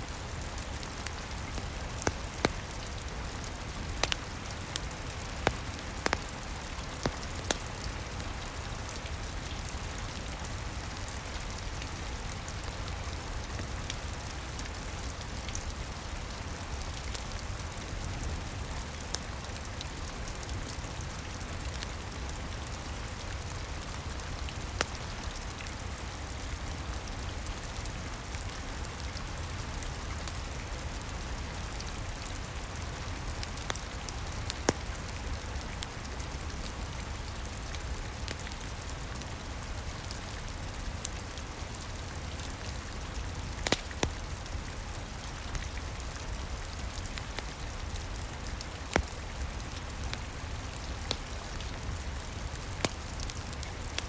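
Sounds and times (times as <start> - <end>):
rain hiss: 0.0 - 54.0
wood fire crackling and popping: 0.1 - 16.2, 16.8 - 26.9, 31.1 - 54.0.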